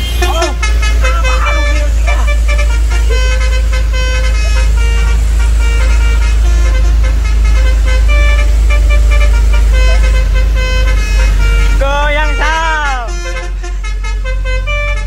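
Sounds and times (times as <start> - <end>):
truck engine rumbling: 0.0 - 15.0
truck horn playing a tune: 0.0 - 15.0.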